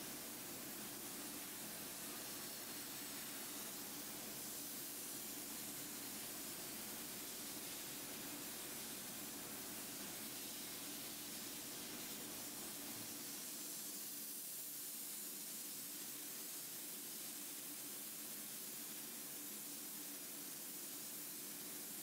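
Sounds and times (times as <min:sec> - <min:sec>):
soda blaster spraying hiss: 0:00.0 - 0:22.0.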